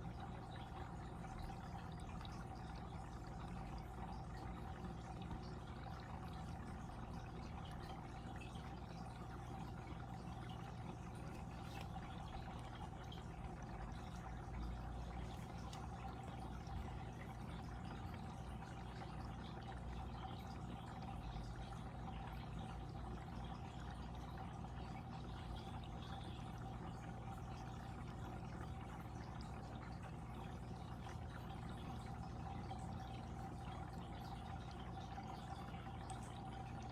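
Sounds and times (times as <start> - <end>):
constant hum: 0.0 - 36.9.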